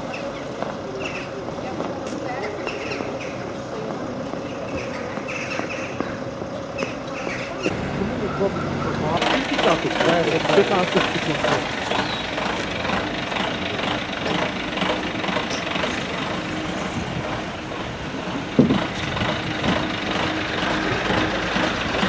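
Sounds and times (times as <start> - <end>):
traffic engines idling: 0.0 - 22.0.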